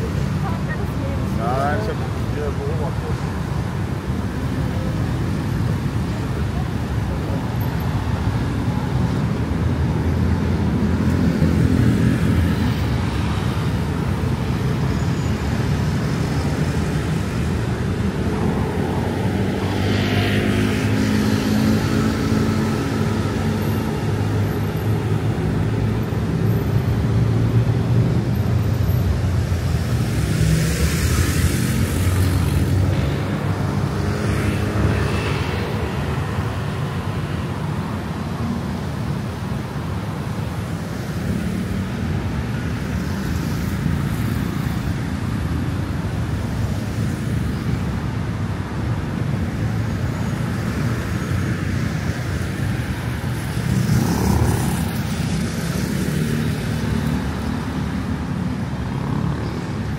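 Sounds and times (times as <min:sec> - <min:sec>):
vehicles passing by: 0:00.0 - 0:59.9.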